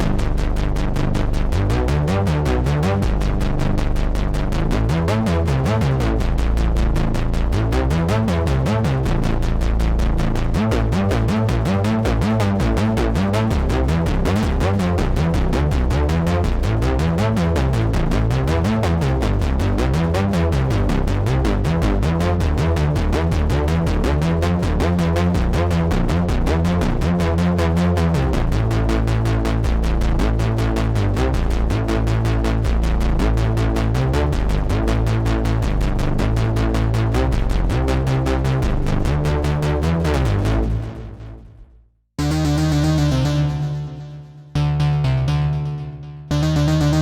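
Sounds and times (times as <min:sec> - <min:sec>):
synthesizer fast repeating notes: 0:00.0 - 0:41.4, 0:42.2 - 0:47.0
synth bass line: 0:00.0 - 0:47.0.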